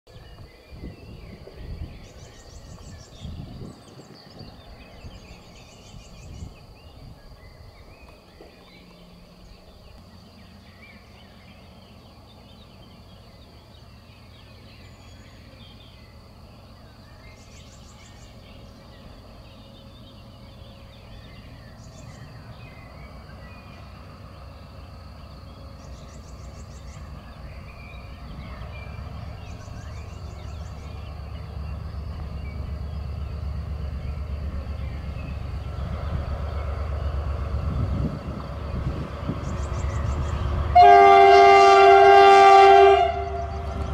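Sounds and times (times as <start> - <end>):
birds calling: 0.1 - 41.8
approaching train rumble: 0.1 - 43.9.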